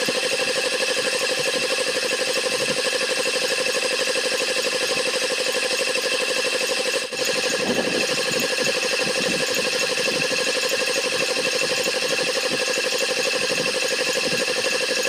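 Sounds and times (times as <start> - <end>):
piston air compressor running: 0.0 - 15.0.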